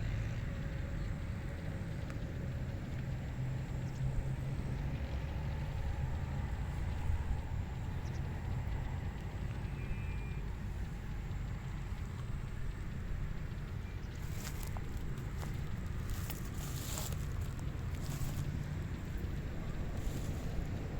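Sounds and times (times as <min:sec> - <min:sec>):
steady wind: 0:00.0 - 0:20.9
wind rumble on microphone: 0:00.0 - 0:20.9.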